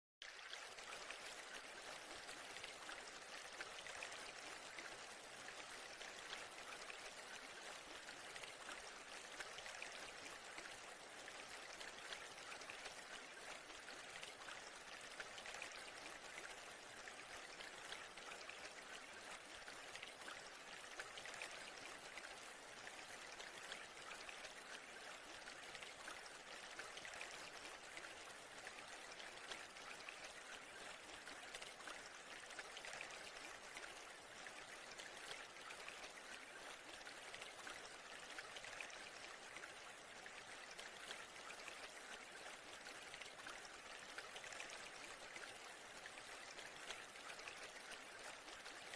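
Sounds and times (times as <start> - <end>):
faint splashing of flowing water: 0.2 - 48.9.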